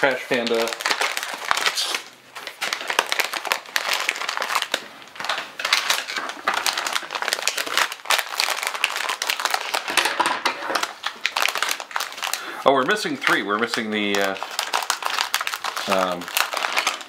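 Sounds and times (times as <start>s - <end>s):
plastic packets crinkling: 0.0s - 17.0s.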